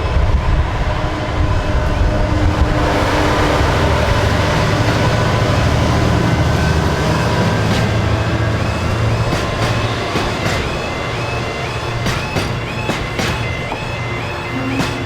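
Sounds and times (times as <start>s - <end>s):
diesel train engine drone: 0.0s - 15.0s
train wheels on rails: 0.0s - 15.0s.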